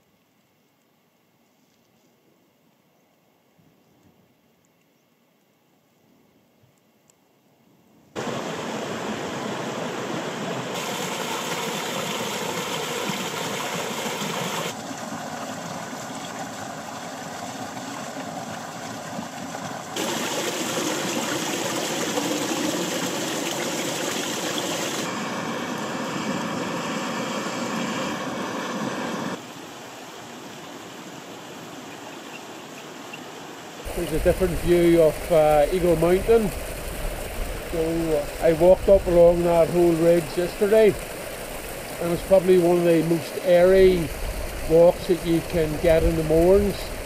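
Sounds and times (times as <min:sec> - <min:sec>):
river rushing over boulders: 0:08.2 - 0:47.0.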